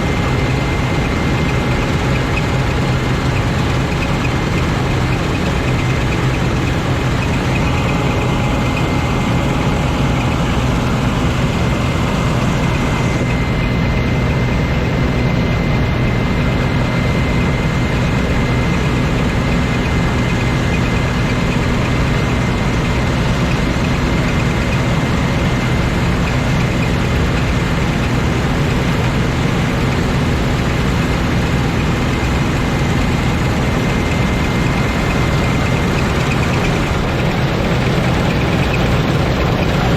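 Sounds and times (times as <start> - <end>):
combine harvester engine drone: 0.0 - 39.9
thin steady whine: 0.0 - 39.9.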